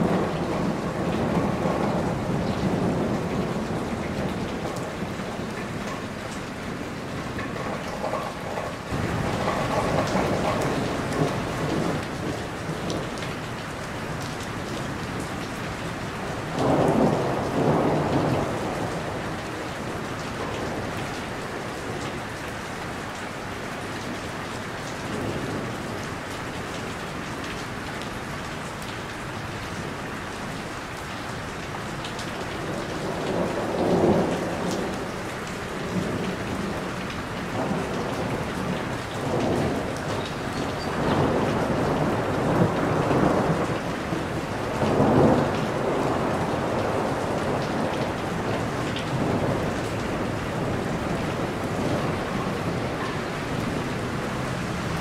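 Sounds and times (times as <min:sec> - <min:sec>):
heavy rain on a roof: 0:00.0 - 0:55.0.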